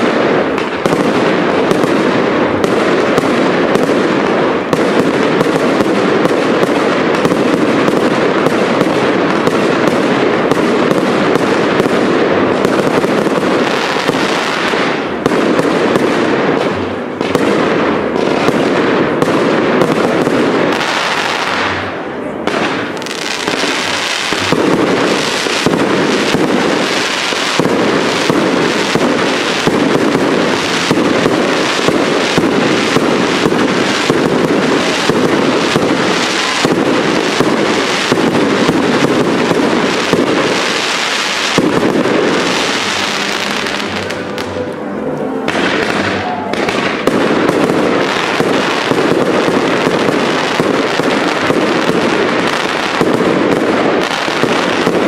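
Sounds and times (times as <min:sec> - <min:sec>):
fireworks barrage firing: 0:00.0 - 0:55.0.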